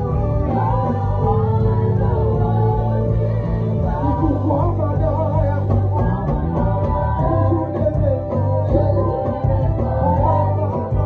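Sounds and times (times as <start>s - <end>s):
electric bass guitar groove: 0.0s - 11.0s
keyboard: 0.0s - 11.0s.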